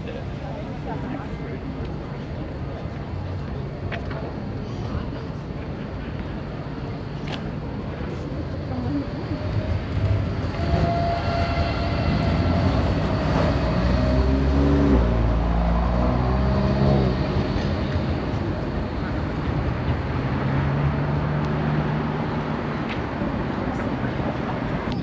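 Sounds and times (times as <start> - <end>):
electric tram passing: 0.0 - 25.0.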